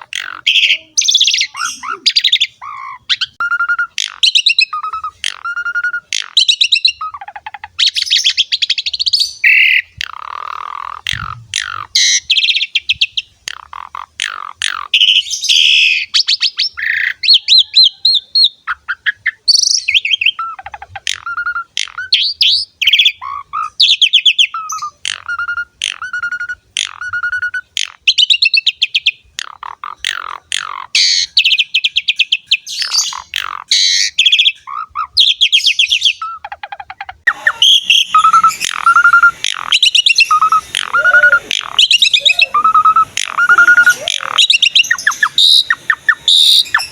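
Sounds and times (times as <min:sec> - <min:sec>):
starling singing: 0:00.0 - 0:46.9.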